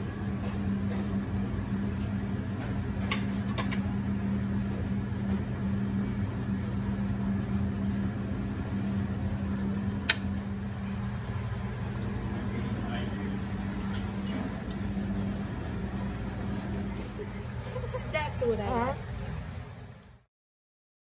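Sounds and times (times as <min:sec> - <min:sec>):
low mechanical hum: 0:00.0 - 0:20.3.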